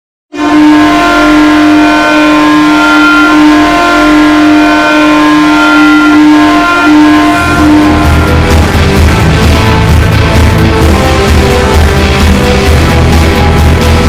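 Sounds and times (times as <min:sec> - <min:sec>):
goal horn blast: 0:00.3 - 0:14.0.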